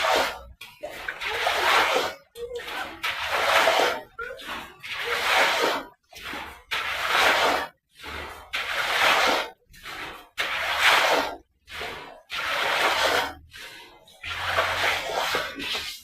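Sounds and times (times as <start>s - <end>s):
brush sweeping water: 0.0s - 16.0s.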